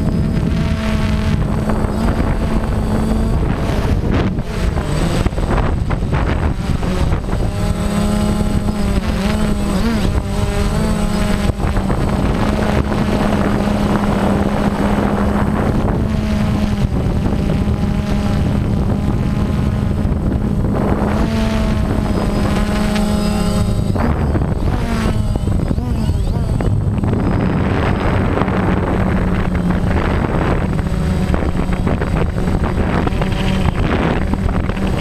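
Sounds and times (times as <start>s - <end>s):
drone propellers humming: 0.0s - 35.0s
wind buffeting microphone: 0.0s - 35.0s.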